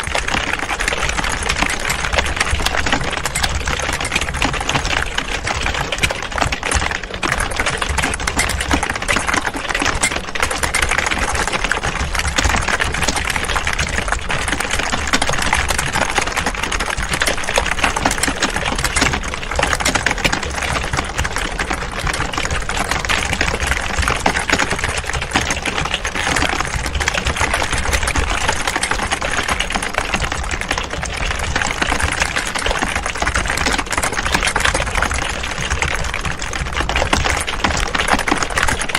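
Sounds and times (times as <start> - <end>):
keyboards clattering: 0.0 - 38.9.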